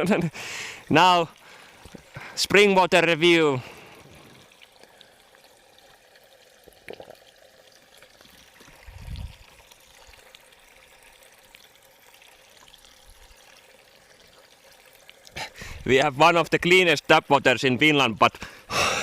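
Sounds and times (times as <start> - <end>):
faint trickle of water: 0.1 - 19.0.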